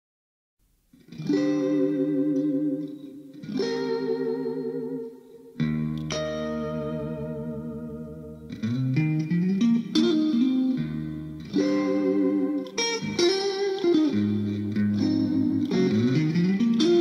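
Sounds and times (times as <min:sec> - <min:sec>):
plucked guitar melody: 0:00.9 - 0:17.0.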